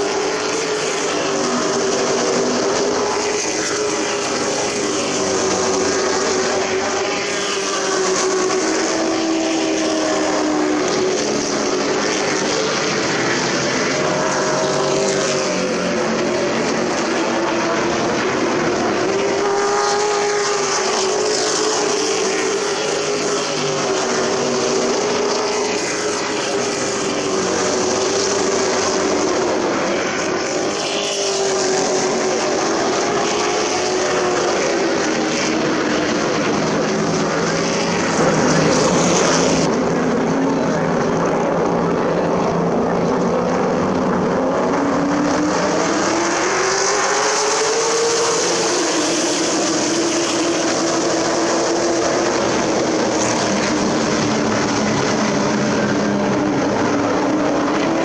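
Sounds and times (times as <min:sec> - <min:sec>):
race truck engines running: 0:00.0 - 0:58.0.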